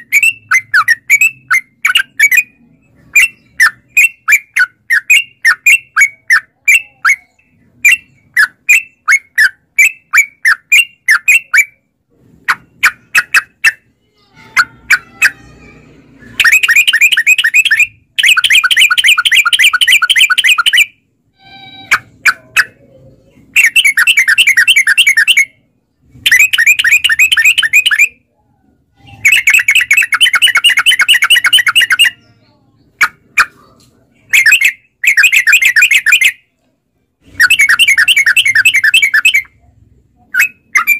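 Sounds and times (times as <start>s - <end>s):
bird chirping and trilling: 0.0s - 36.5s, 37.2s - 40.9s.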